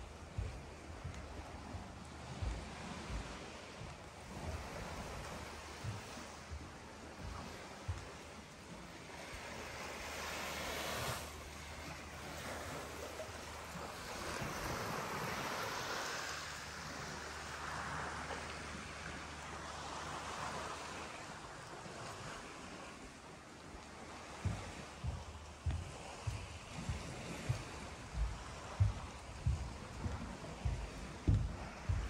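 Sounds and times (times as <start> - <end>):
sea waves washing in: 0.0 - 32.0.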